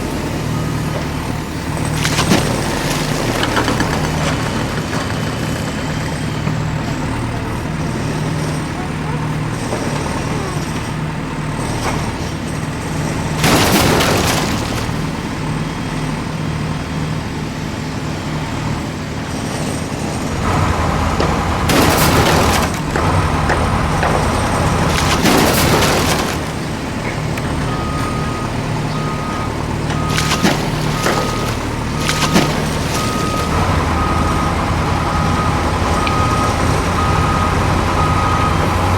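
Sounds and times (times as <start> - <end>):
vehicle engine hum: 0.0 - 38.9.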